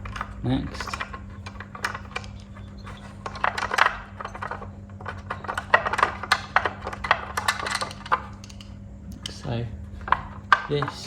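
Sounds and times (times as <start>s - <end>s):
hand tools clicking on metal: 0.0s - 11.0s
steady low hum: 0.0s - 11.0s.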